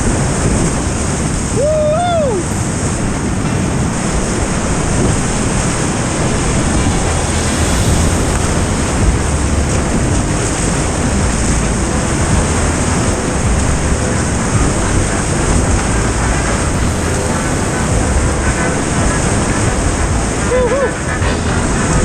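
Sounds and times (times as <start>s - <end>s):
river whitewater roaring: 0.0s - 22.0s
wind buffeting microphone: 0.0s - 22.0s.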